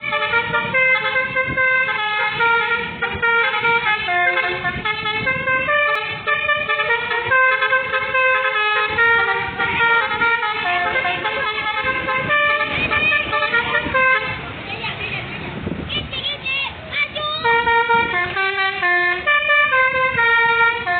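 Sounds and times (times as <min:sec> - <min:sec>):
multi-tone horn playing a tune: 0:00.0 - 0:14.5, 0:17.4 - 0:20.9.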